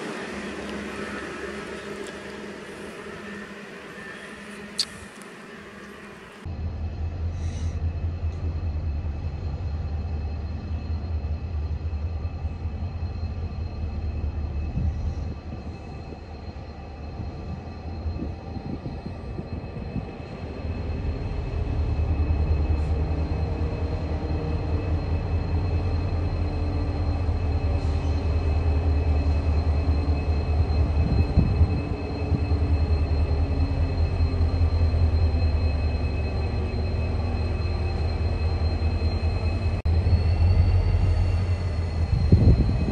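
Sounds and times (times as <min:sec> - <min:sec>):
diesel locomotive engines rumbling: 0:00.0 - 0:42.9.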